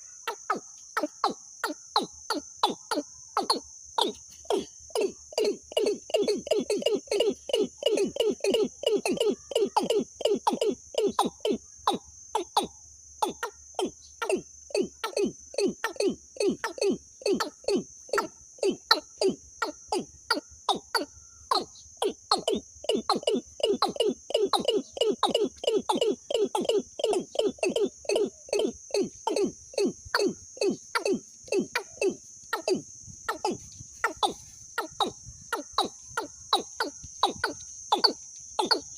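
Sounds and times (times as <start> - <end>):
bird call: 0.0 - 38.9
high insect buzz: 0.0 - 38.9.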